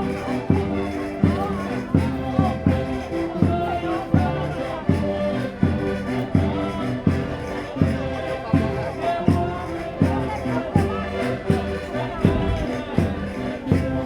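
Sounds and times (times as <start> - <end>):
concertinas playing folk dance tune: 0.0 - 14.0.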